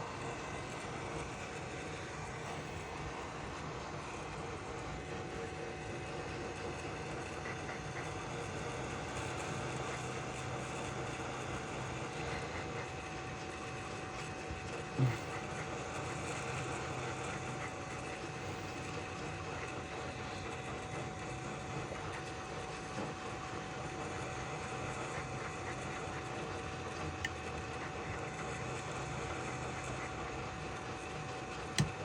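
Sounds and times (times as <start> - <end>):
faint steady whine: 0.0 - 32.0.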